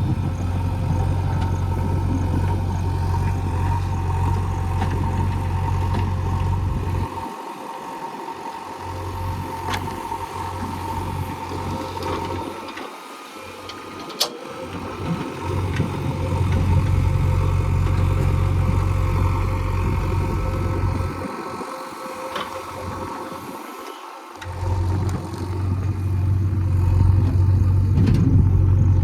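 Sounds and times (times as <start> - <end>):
heavy diesel engine rumbling: 0.0 - 7.2, 8.8 - 12.7, 13.4 - 23.4, 24.4 - 29.0.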